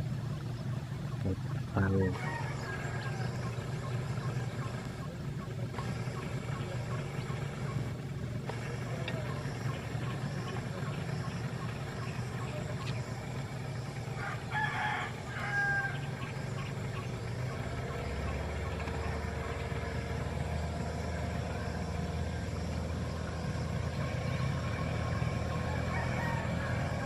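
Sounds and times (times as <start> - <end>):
outboard motors humming: 0.0 - 27.0
loud bird call: 0.2 - 27.0.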